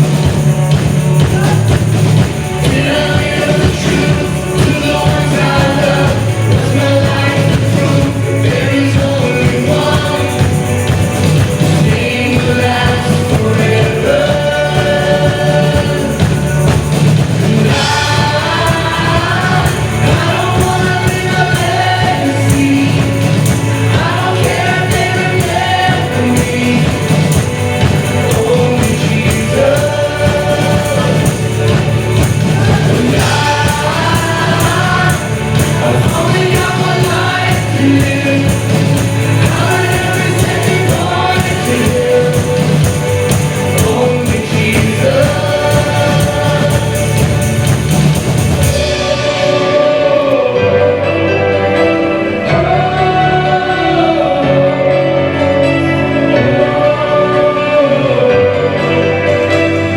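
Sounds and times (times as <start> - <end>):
group singing worship song: 0.0 - 59.9
instrumental accompaniment: 0.0 - 59.9.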